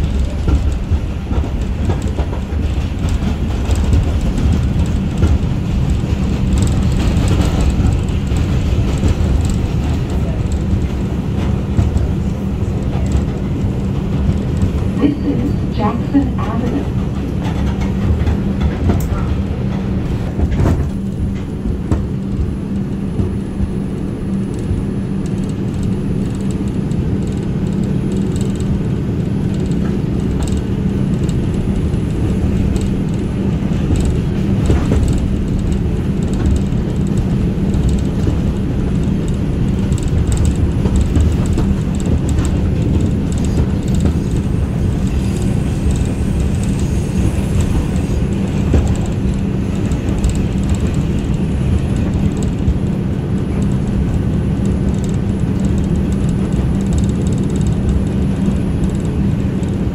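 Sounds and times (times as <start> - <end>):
subway train drone: 0.0 - 59.9
wheels clicking on rails: 0.0 - 59.9.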